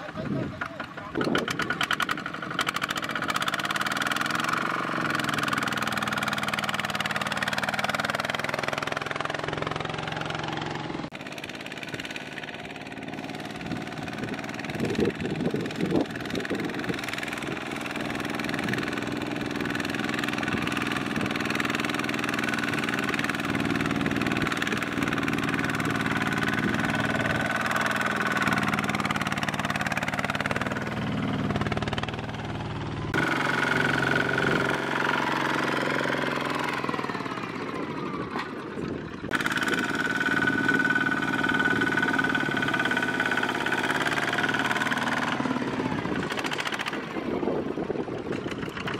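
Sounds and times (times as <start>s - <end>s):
diesel tractor engine running: 0.0s - 48.9s
wheels churning mud: 0.0s - 48.9s.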